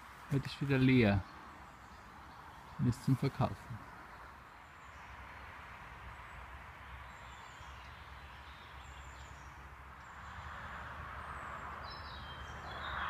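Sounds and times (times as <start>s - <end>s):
small birds singing: 0.0s - 13.0s.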